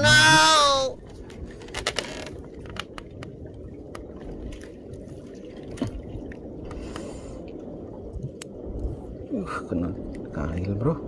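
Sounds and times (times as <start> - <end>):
water sloshing: 0.9 - 10.3.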